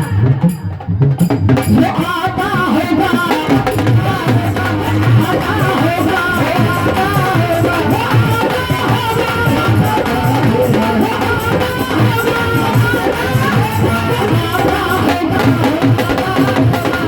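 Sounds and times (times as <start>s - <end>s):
hand drum beat: 0.0s - 17.0s.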